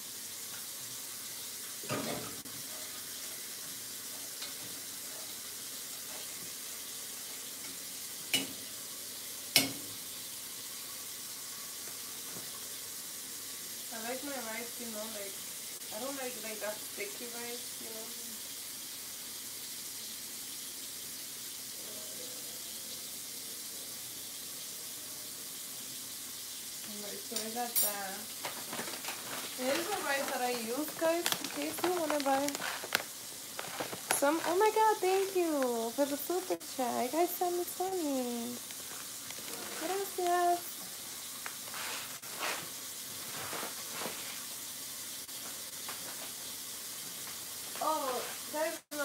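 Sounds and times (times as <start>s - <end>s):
rice sizzling in a pot: 0.0s - 49.0s.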